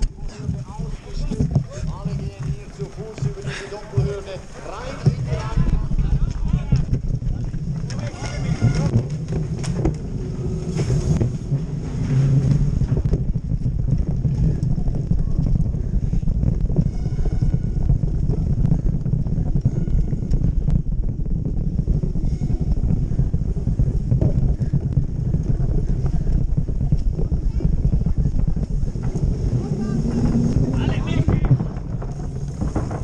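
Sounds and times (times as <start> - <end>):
tyres rumbling on sand: 0.0 - 33.0
wind buffeting microphone: 0.0 - 33.0.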